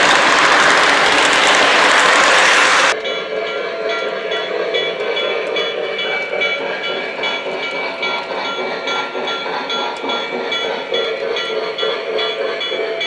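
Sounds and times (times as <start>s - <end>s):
rhythmic steam engine sound: 0.0s - 13.0s
wheels rolling on rails: 0.0s - 13.0s.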